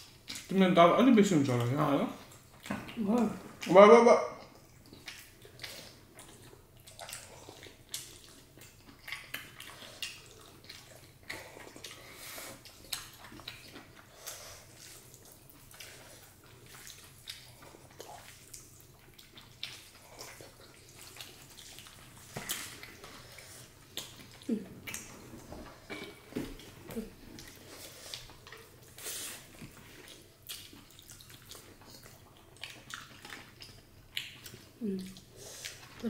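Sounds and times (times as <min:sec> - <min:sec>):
wet chewing and smacking: 0:00.0 - 0:00.5, 0:01.4 - 0:03.8, 0:04.4 - 0:36.0.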